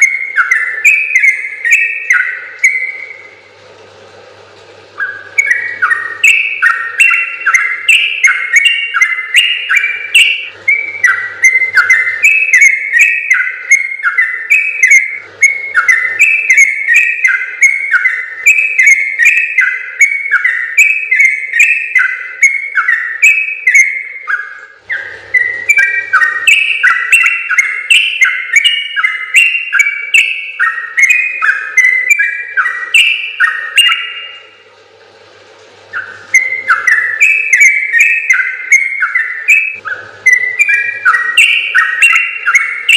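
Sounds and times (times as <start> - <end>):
bird singing bubbling whistles: 0.0 - 3.5, 4.9 - 34.6, 35.9 - 42.9.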